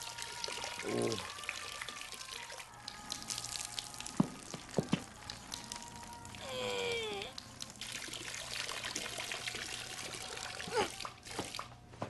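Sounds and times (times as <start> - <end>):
liquid pouring and splashing: 0.0 - 6.4, 7.1 - 11.8.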